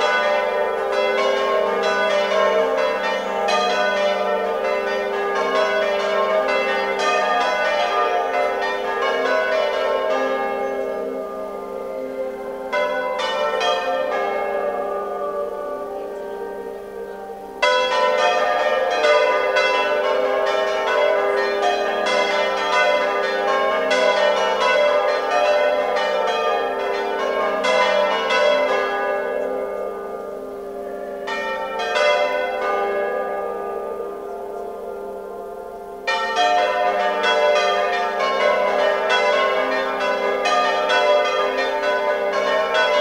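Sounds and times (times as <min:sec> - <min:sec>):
church bells ringing: 0:00.0 - 0:43.0.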